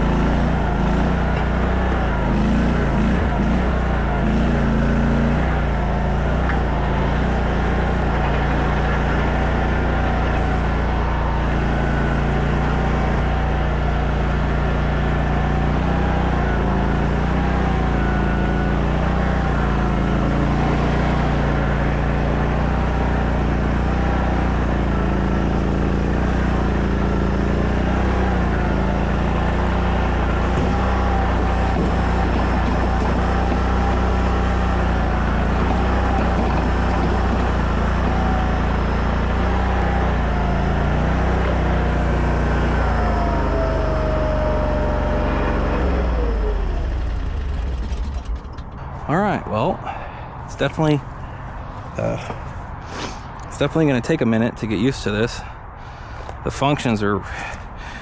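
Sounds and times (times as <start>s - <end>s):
machine whine: 0.0s - 53.4s
small engine running: 0.0s - 54.2s, 55.4s - 58.0s.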